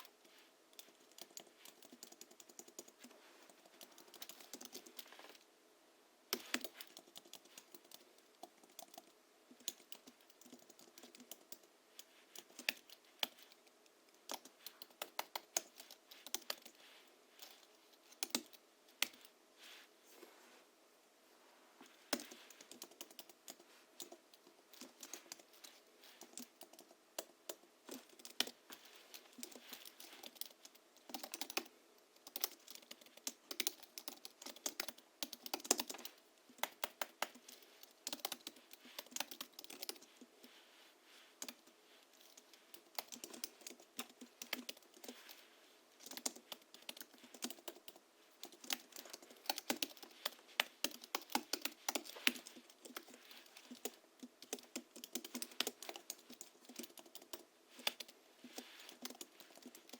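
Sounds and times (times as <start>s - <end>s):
keyboard typing: 0.0s - 5.5s, 6.3s - 19.3s, 22.1s - 40.4s, 41.4s - 59.9s.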